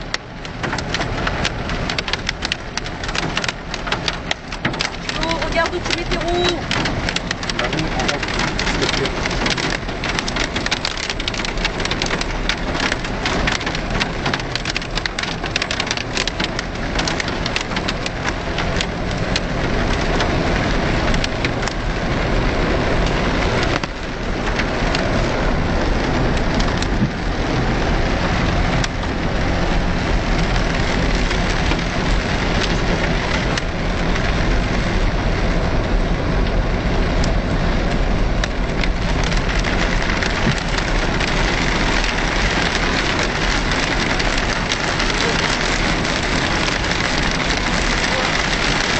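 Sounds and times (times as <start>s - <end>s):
vehicle engine and tyre noise: 0.0s - 48.9s
vehicle knocks and rattles: 0.0s - 48.9s.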